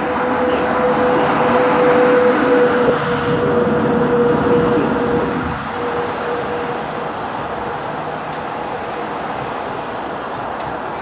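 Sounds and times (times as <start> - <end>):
passing train rolling noise: 0.0 - 11.0
steady whine: 0.0 - 11.0.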